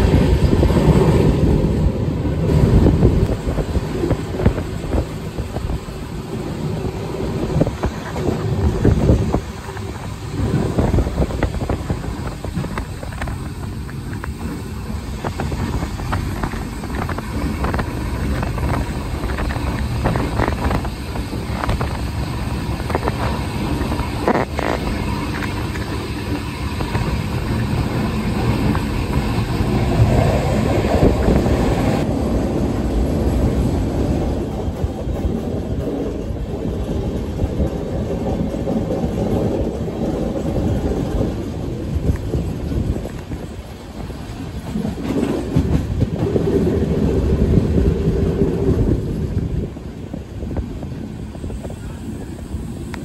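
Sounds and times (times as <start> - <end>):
train wheels rumbling on track: 0.0 - 53.0
wheels clicking over rail joints: 2.4 - 53.0.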